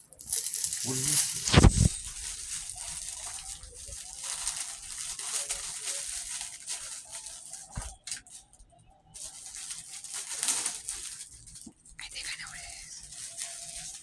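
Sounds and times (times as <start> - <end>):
plastic packaging crinkling: 0.1 - 14.0.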